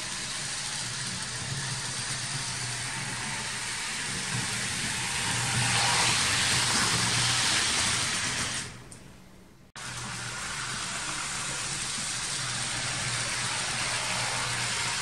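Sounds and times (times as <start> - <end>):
model train motor hum: 0.0 - 8.8, 9.8 - 15.0
model train wheels rumbling on rails: 0.0 - 8.8, 9.8 - 15.0.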